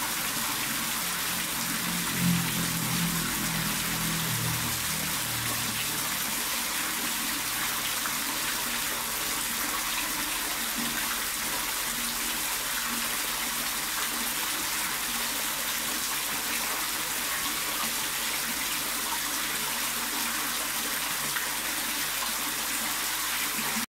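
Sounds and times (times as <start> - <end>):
water pouring and splashing: 0.0 - 23.9.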